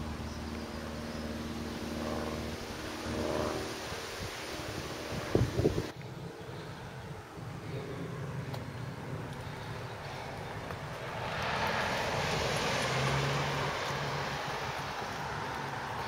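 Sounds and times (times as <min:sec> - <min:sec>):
vehicle passing by: 0:00.0 - 0:06.0, 0:07.6 - 0:16.0.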